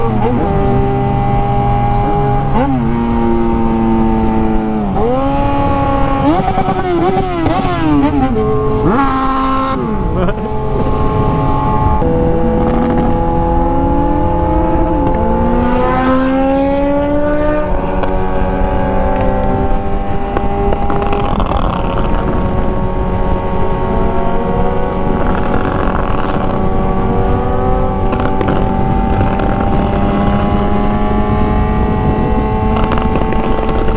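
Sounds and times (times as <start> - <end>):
motorcycle engine running loudly: 0.0 - 33.9.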